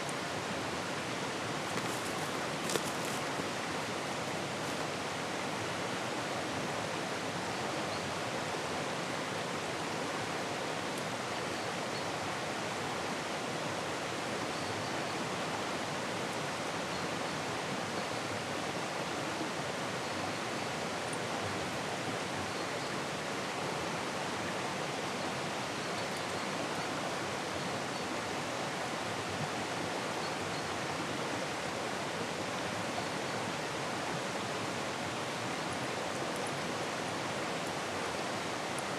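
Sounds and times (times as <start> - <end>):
river rushing over rapids: 0.0 - 38.9.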